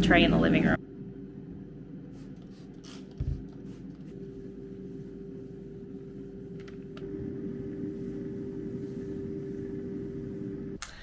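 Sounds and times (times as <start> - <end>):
air fryer humming: 0.0 - 10.8.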